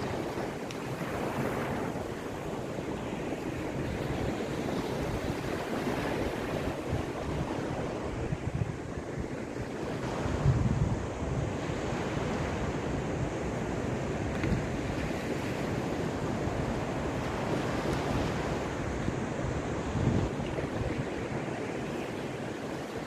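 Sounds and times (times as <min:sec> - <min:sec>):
waves washing: 0:00.0 - 0:23.0
wind on microphone: 0:00.0 - 0:23.0.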